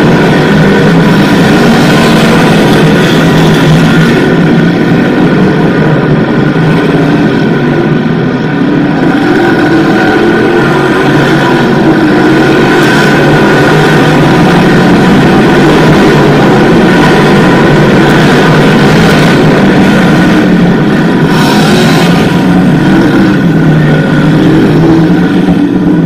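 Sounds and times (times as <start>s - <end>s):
race car engines droning: 0.0s - 26.0s.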